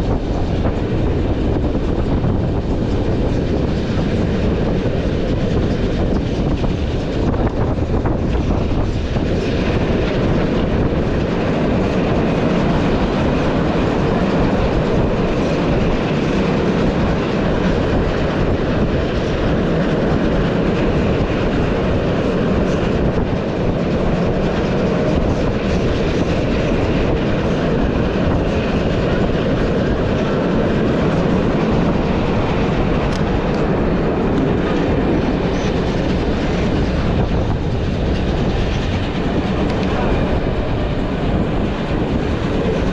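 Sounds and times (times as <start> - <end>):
clatter over rail joints: 0.0 - 42.9
train wheels rumbling on rails: 0.0 - 42.9.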